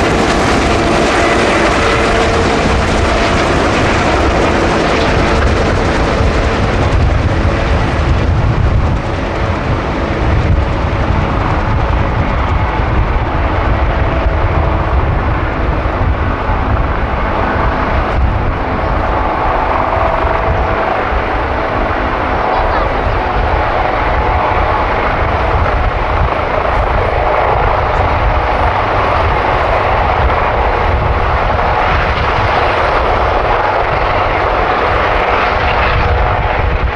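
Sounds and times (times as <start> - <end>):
helicopter rotors beating: 0.0 - 36.9
helicopter turbine whine: 0.0 - 36.9.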